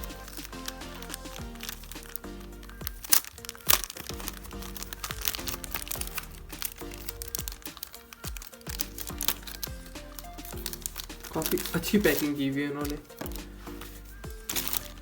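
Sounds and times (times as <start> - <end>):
background music with sliding bass: 0.0 - 15.0
paper packaging crinkling: 0.0 - 15.0.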